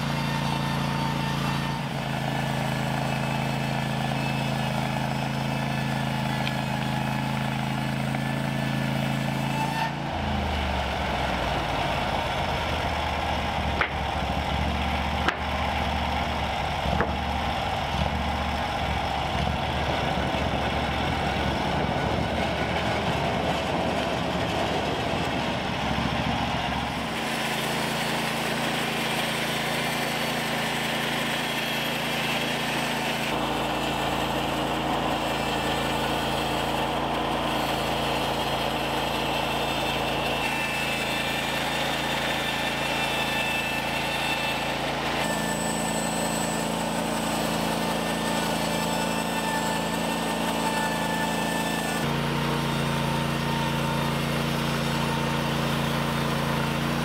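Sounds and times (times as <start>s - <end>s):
sawmill engine droning: 0.0s - 57.0s.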